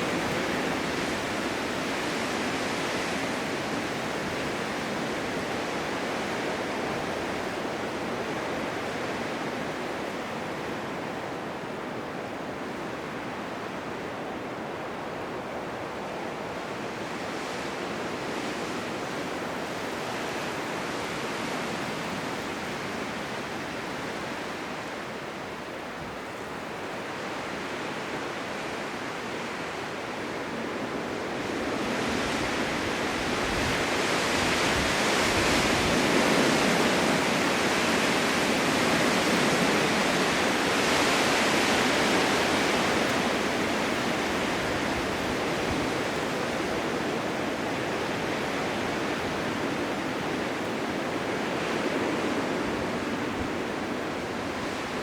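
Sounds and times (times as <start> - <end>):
blizzard wind rushing: 0.0 - 55.0.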